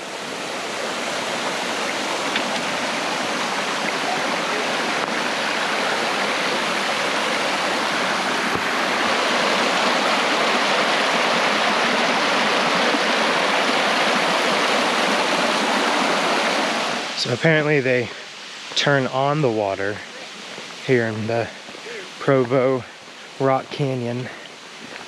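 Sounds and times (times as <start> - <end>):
water rushing down a rocky creek: 0.0 - 25.0.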